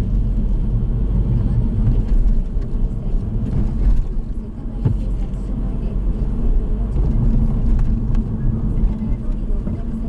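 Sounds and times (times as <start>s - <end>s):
car cabin road rumble: 0.0s - 10.0s.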